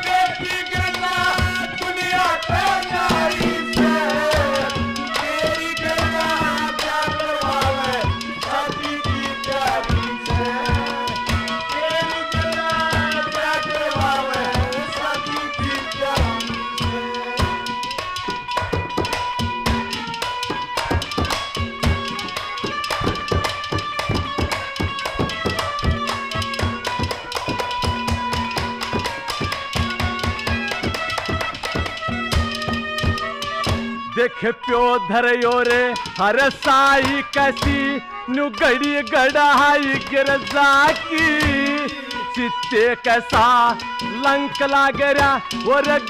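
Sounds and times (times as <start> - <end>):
fast hand drumming: 0.0 - 34.1, 35.3 - 46.0
harmonium melody: 0.0 - 46.0.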